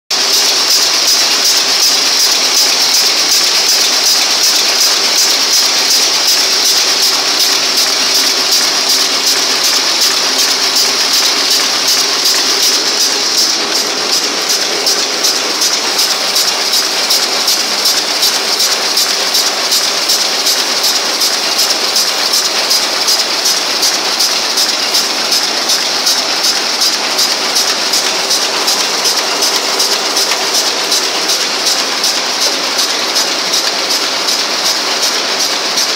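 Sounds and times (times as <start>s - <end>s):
machine mechanical clatter: 0.1s - 35.9s
steady hum of rollers and drive: 0.2s - 35.9s.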